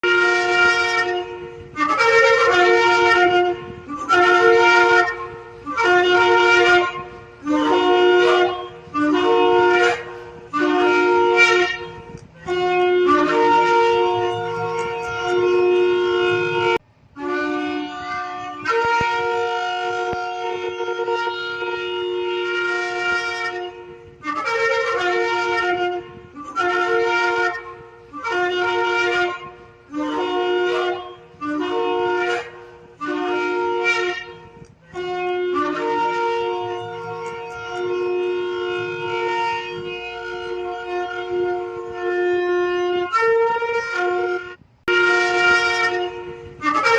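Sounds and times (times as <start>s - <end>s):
shofar blasts: 0.0s - 46.9s.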